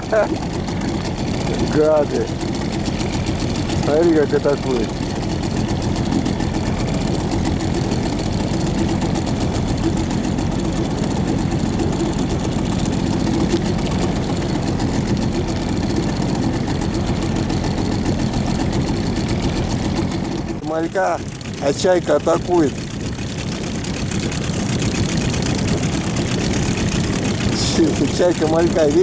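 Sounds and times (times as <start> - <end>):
boat motor humming: 0.0 - 29.0.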